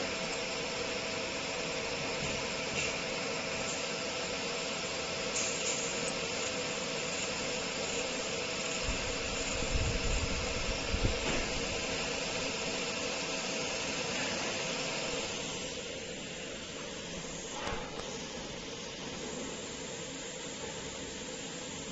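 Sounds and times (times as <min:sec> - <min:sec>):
fan-like hiss: 0:00.0 - 0:21.9.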